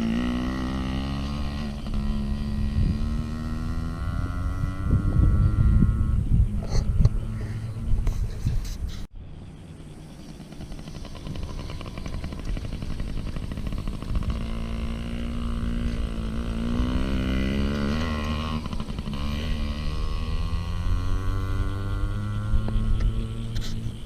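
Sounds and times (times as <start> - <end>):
dirt bike engine running: 0.0 - 8.2, 9.8 - 24.0.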